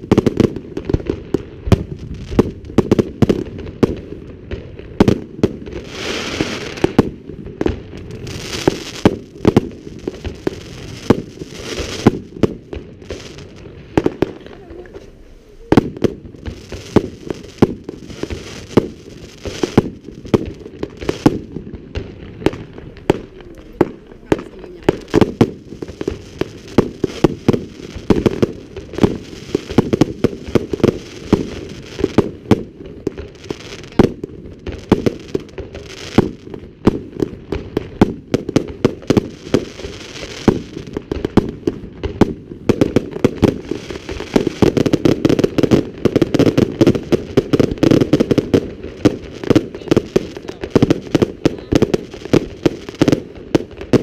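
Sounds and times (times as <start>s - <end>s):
firework bangs: 0.0s - 54.0s
fireworks crackling: 0.0s - 54.0s.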